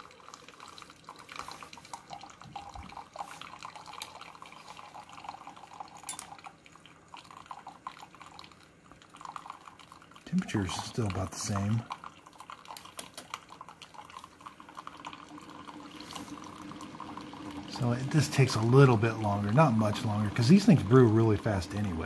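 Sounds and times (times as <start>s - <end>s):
coffee trickling into a glass mug: 0.0s - 22.0s.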